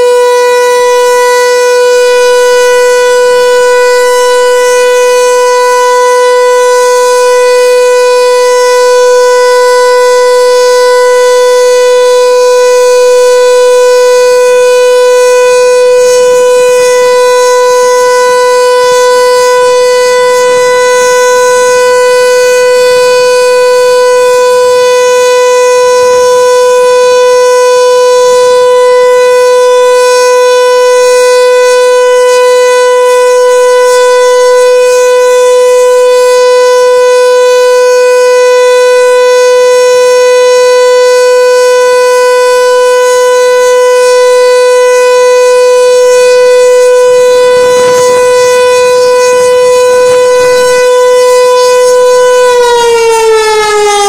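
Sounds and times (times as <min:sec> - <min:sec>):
siren steady alert tone: 0:00.0 - 0:54.0.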